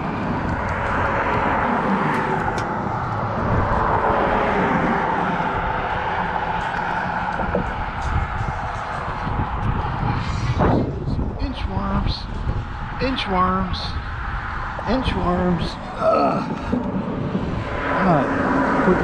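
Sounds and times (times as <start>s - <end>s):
car traffic passing: 0.0s - 19.0s.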